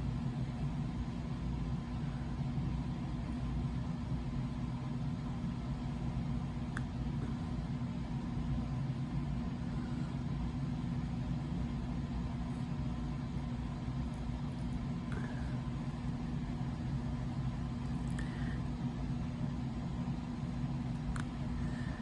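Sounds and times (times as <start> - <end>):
low mechanical motor hum: 0.0 - 22.0.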